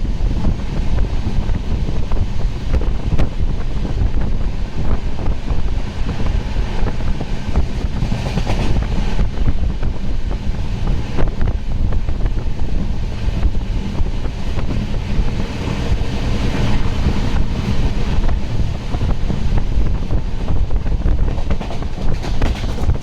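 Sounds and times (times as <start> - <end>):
train wheels rumbling on rail: 0.0 - 23.0
wind buffeting microphone: 0.0 - 23.0.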